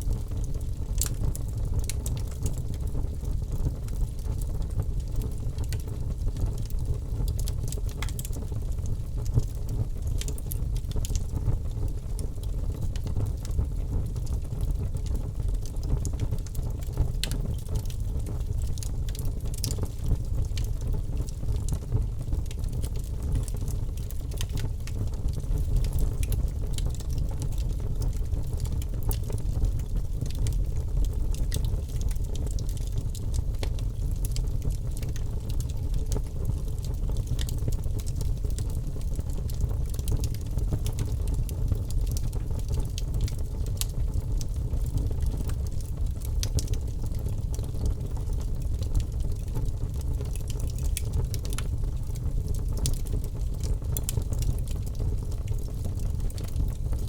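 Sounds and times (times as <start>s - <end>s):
wood crackling and popping: 0.1s - 57.0s.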